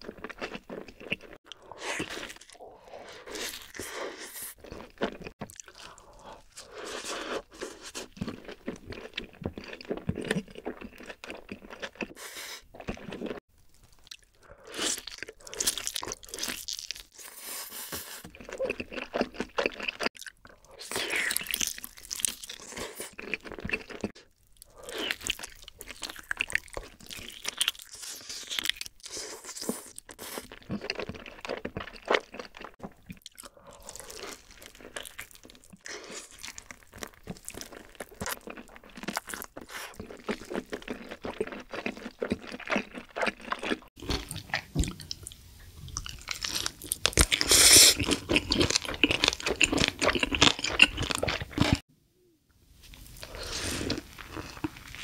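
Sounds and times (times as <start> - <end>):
crunchy chewing: 0.0 - 45.3, 45.9 - 51.8, 52.9 - 55.0.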